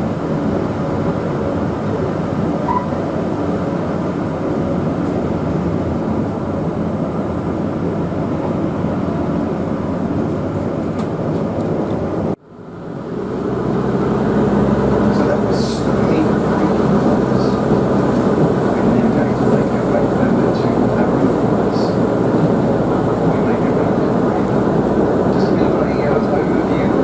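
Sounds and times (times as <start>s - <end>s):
diesel rail motor running: 0.0s - 27.0s.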